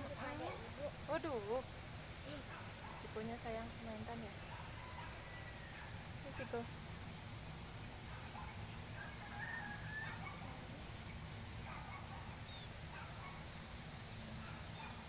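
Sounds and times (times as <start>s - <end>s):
high outdoor hiss: 0.0s - 15.0s.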